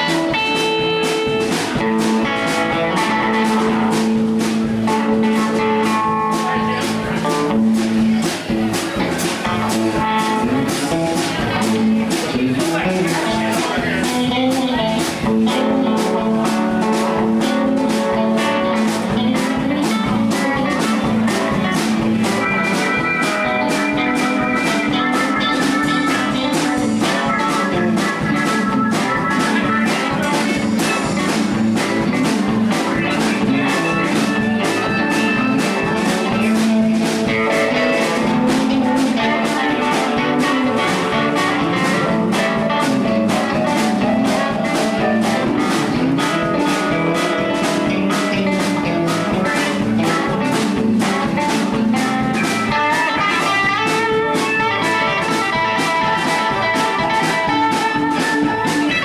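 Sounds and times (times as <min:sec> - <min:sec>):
drum kit beat: 0:00.0 - 0:59.0
electric guitar blues lines: 0:00.0 - 0:59.0.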